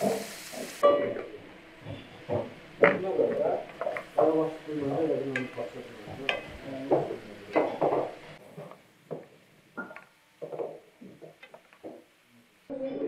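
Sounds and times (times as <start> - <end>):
peppers sizzling: 0.0 - 12.7.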